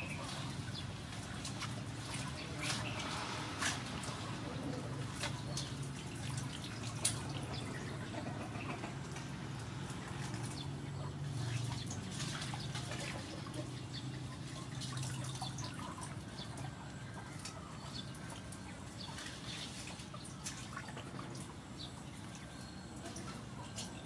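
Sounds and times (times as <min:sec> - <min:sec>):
water dripping and splashing: 0:00.0 - 0:24.0.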